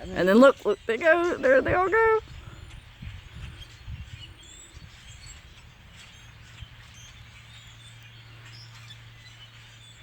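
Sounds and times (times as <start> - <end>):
flock of birds chirping: 0.0 - 10.0.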